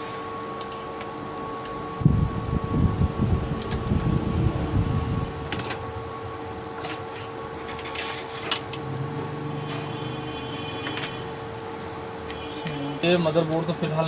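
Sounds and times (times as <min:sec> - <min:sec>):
high electrical whine: 0:00.0 - 0:14.0.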